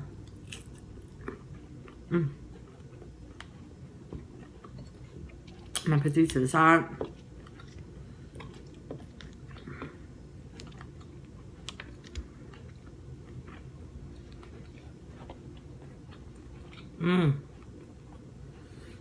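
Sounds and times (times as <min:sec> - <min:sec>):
low steady hum: 0:00.0 - 0:19.0
chewing: 0:00.2 - 0:05.9, 0:07.0 - 0:19.0.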